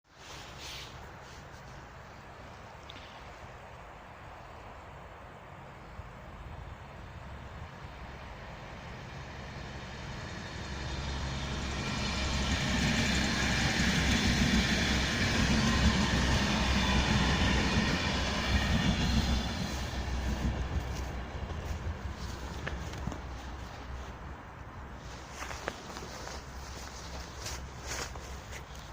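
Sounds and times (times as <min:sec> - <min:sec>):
train passing on tracks: 0:00.1 - 0:28.9.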